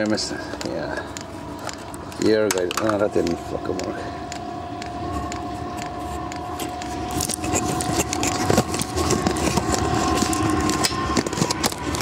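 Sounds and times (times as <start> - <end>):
heater fan motor whine: 0.0 - 12.0.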